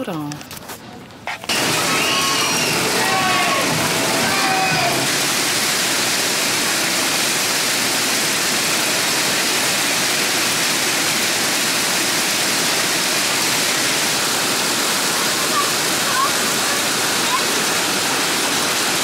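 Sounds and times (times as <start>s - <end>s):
heavy rain and hail on pavement: 1.5s - 19.0s.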